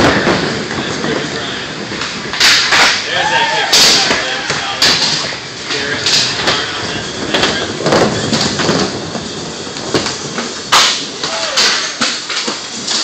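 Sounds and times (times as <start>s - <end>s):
skateboard clacks: 0.0s - 13.0s
skateboard wheels rolling on wood: 0.0s - 13.0s.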